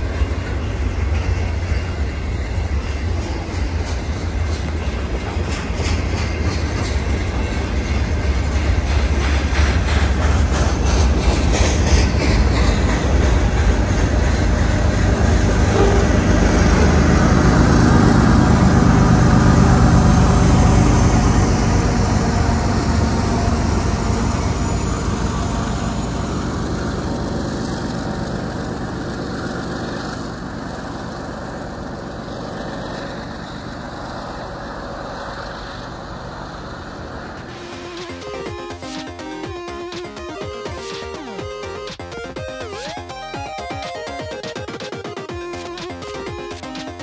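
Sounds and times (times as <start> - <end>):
diesel locomotive engine: 0.0 - 47.0
train wheels on rails: 0.0 - 47.0.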